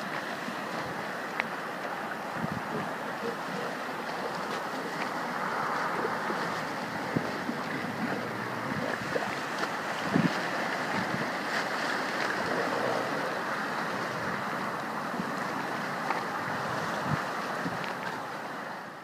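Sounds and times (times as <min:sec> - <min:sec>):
ocean surf washing around rocks: 0:00.0 - 0:19.0
wind on microphone: 0:00.0 - 0:19.0.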